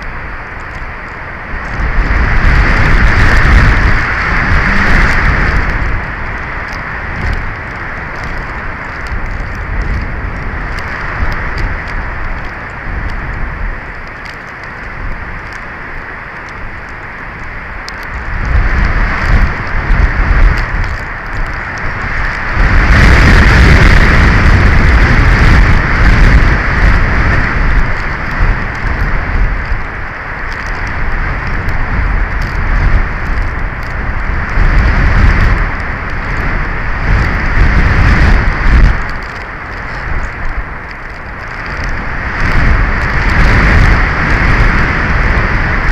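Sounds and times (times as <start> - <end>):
strong wind buffeting microphone: 0.0 - 45.9.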